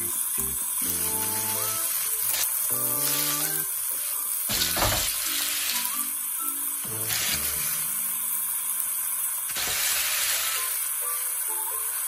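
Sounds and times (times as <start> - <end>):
background music melody: 0.0 - 9.0, 10.2 - 12.0
food sizzling in a wok: 0.0 - 12.0.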